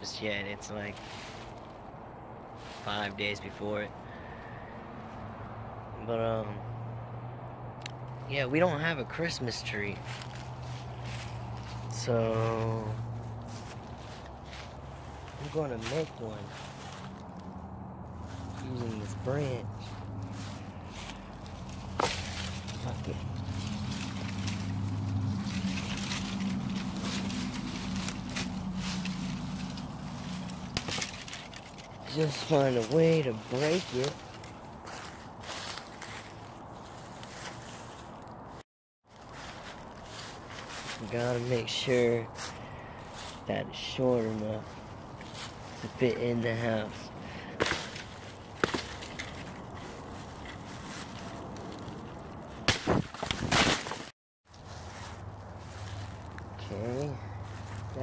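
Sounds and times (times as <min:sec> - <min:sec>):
dry leaves and twigs crackling: 0:00.0 - 0:05.2, 0:07.8 - 0:58.0.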